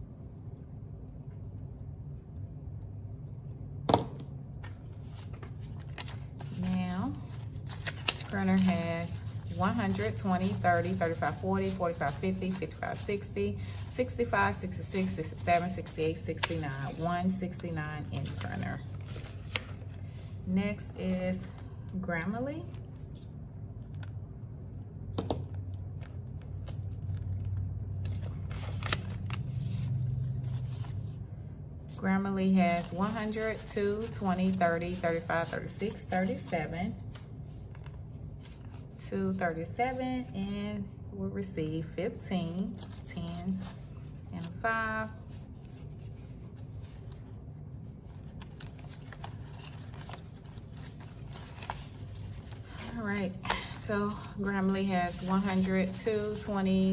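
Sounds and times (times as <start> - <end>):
steady low hum: 0.0 - 56.9
paper and plastic rustling: 4.6 - 21.8, 25.1 - 39.1, 42.4 - 56.9.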